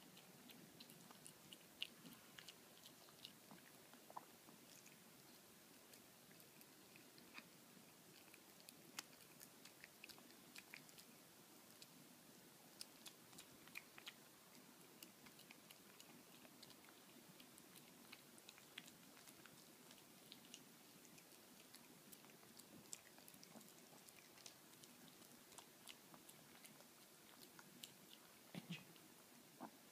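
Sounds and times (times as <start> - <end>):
dog chewing a treat: 0.1 - 5.0, 8.1 - 12.0, 12.8 - 28.4.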